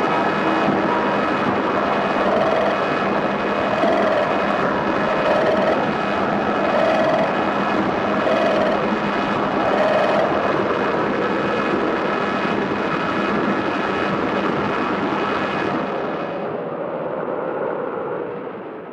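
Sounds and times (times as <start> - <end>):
churning industrial noise: 0.0 - 16.4
steady droning tones: 0.0 - 18.6.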